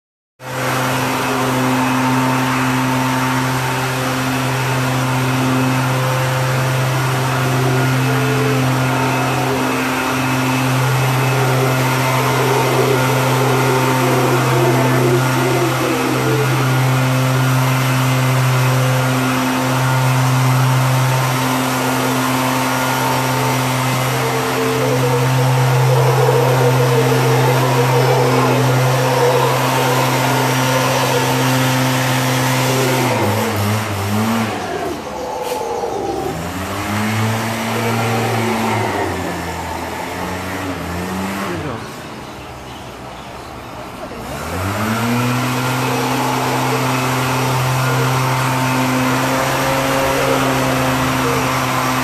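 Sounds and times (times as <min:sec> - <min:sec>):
howler monkeys roaring: 0:00.5 - 0:42.4, 0:44.1 - 0:52.0.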